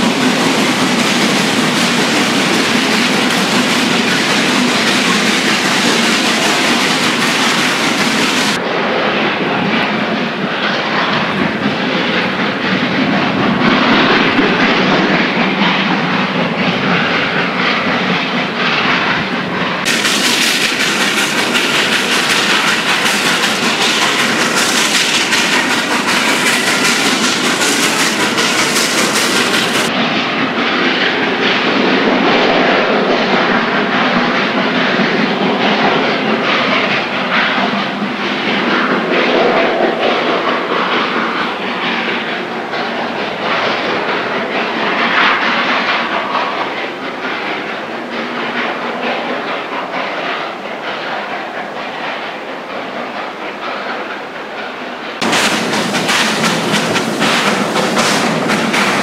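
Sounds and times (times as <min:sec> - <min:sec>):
steam train running on rails: 0:00.0 - 0:59.0.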